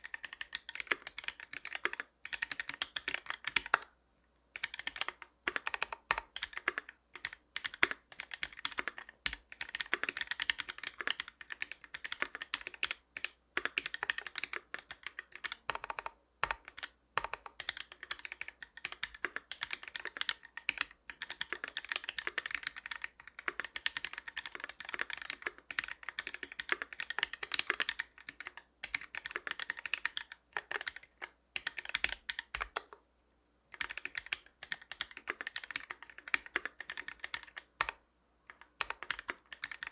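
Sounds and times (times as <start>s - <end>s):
fast mechanical keyboard typing: 0.0s - 3.9s, 4.6s - 33.0s, 33.8s - 39.9s.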